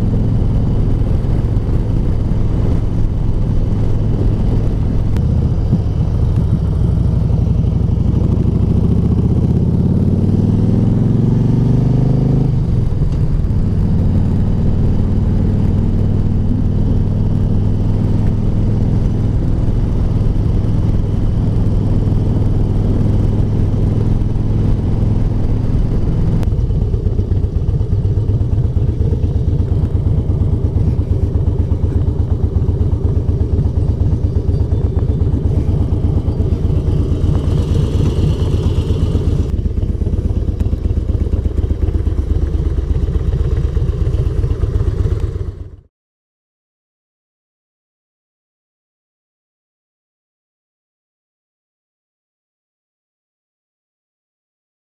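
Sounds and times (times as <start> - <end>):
motorcycle engine revving and idling: 0.0 - 45.9.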